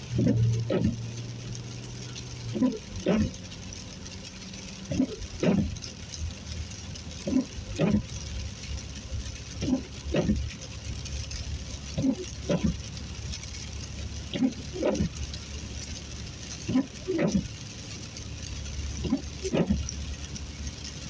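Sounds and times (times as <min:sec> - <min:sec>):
engine and road noise drone: 0:00.0 - 0:21.0
windshield wipers sweeping: 0:00.0 - 0:21.0.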